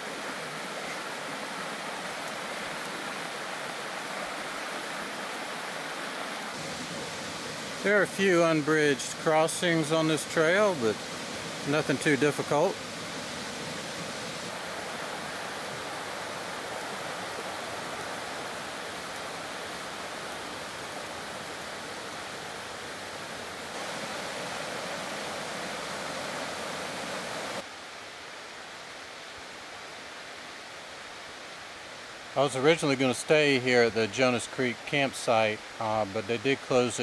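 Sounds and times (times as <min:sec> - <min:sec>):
creek flowing over rocks: 0:00.0 - 0:37.0.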